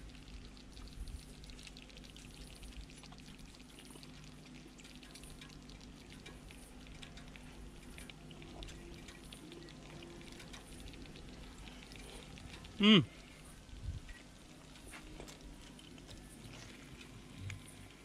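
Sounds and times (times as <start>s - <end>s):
low steady hum: 0.0s - 18.0s
sauce sizzling and crackling: 0.0s - 18.0s.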